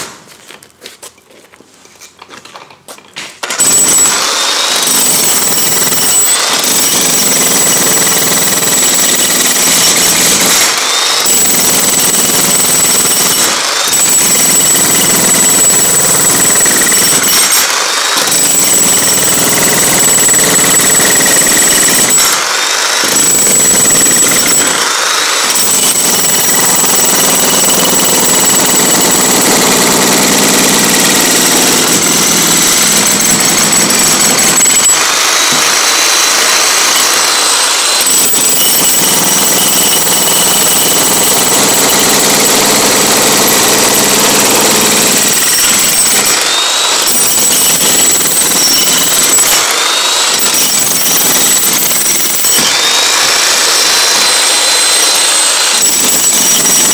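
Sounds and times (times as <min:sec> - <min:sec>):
demolition hammer chiselling concrete: 0:03.4 - 0:56.9.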